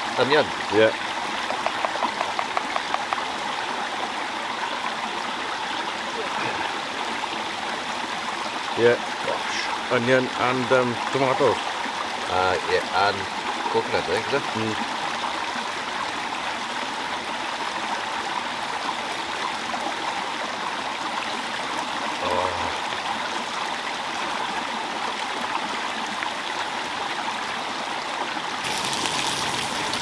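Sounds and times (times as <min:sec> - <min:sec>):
stream running water: 0:00.0 - 0:30.0.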